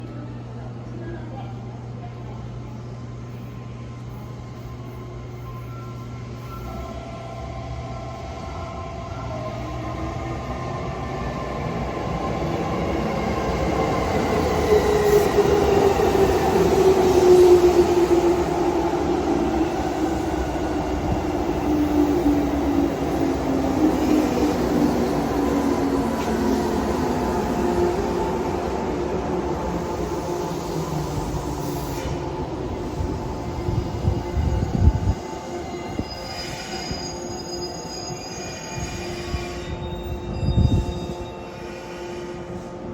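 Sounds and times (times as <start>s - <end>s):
electric train approaching: 3.2s - 42.9s.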